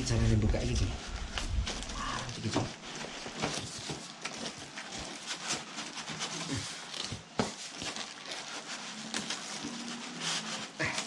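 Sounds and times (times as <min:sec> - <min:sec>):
cardboard and styrofoam rustling: 0:00.0 - 0:11.0.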